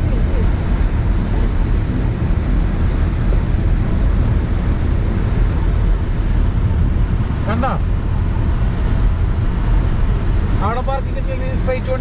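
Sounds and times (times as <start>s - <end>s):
car driving at speed: 0.0s - 12.0s
wind noise: 0.0s - 12.0s.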